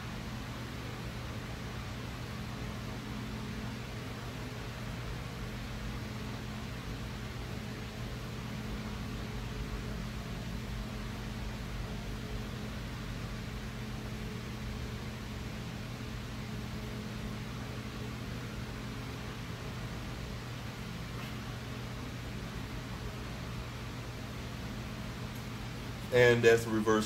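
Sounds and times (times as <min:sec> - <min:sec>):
machine hum with hiss: 0:00.0 - 0:27.0.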